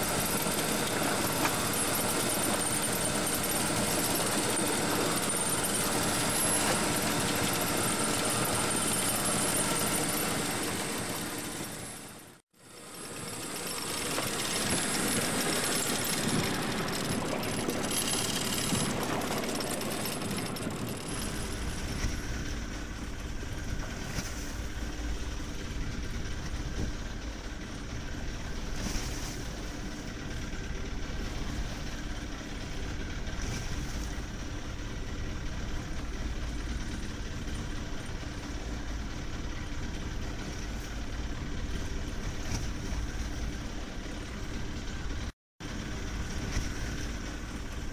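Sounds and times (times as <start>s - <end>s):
boat engine and deck machinery: 0.0s - 47.9s.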